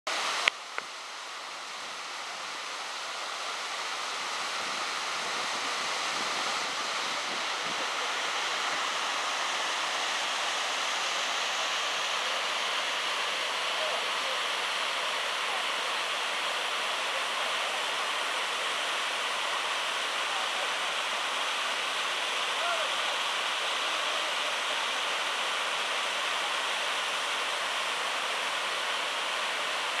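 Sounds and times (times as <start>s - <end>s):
stream rushing over rocks: 0.1s - 30.0s.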